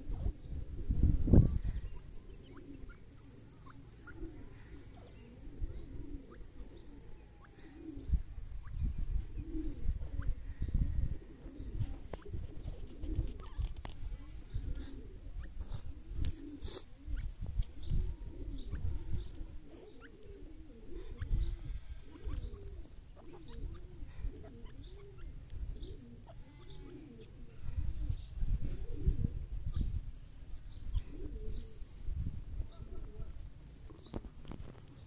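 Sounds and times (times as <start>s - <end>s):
birds cooing: 0.0s - 35.0s.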